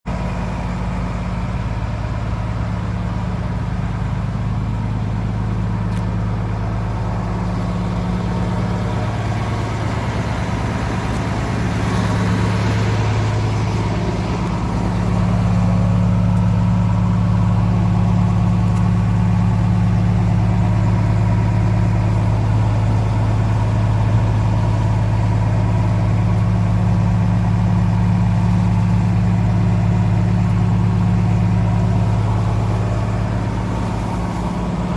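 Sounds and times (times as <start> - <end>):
diesel engine humming: 0.1 - 34.9.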